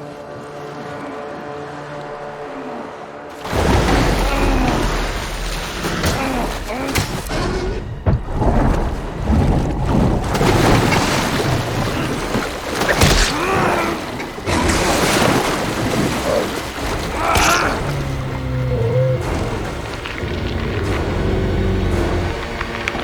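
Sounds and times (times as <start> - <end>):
rushing water: 0.0 - 23.0
dramatic music: 0.1 - 23.0.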